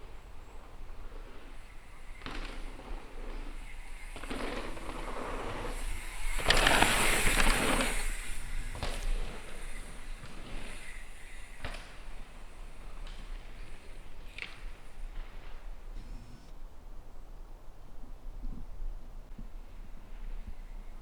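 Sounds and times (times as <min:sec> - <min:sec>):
bike tyres on trail: 0:00.0 - 0:21.0.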